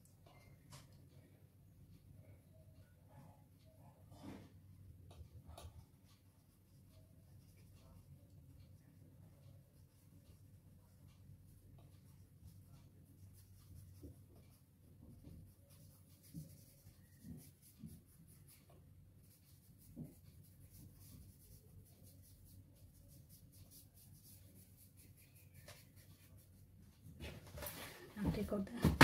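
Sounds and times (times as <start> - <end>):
paintbrush scrubbing on paper: 4.1 - 28.1.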